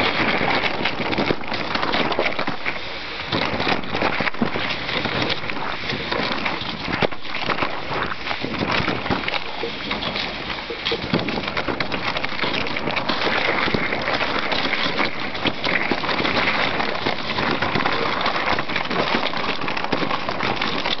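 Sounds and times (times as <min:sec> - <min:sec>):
dog sled scraping over snow: 0:00.0 - 0:21.0.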